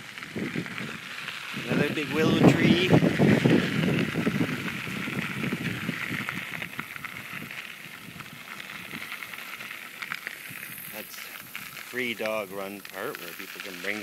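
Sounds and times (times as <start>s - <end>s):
bicycle riding hiss and rattles: 0.0s - 14.0s.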